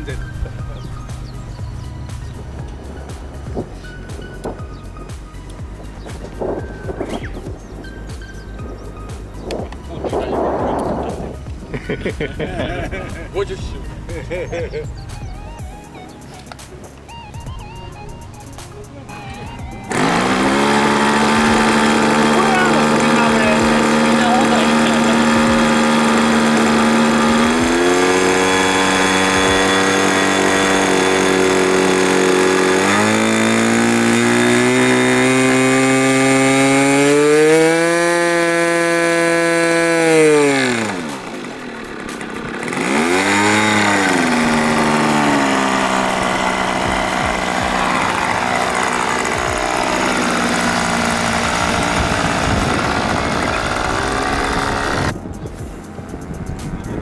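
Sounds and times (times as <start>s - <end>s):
model aircraft engine revving: 0.0s - 55.4s.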